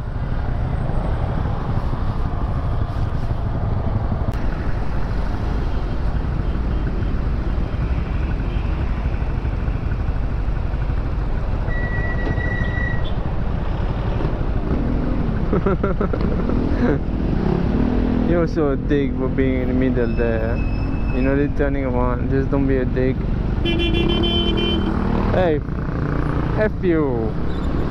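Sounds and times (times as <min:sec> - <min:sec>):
motorcycle engine and wind rumble: 0:00.0 - 0:27.9
surrounding traffic: 0:00.0 - 0:27.9.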